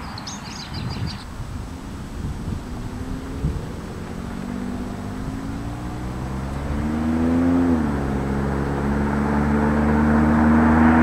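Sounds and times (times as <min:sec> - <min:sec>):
car engine accelerating: 0:01.2 - 0:11.0.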